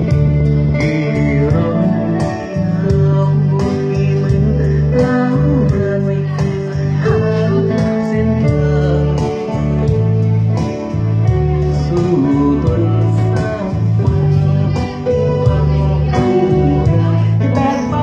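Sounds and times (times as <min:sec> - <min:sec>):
guitar melody: 0:00.0 - 0:18.0
sustained bass notes: 0:00.0 - 0:18.0.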